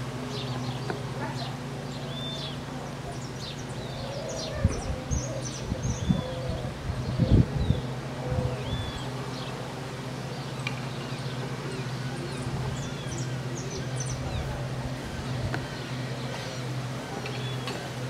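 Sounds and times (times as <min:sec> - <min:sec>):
steady low hum: 0:00.0 - 0:18.0
small birds chirping: 0:00.2 - 0:08.0, 0:08.6 - 0:17.8.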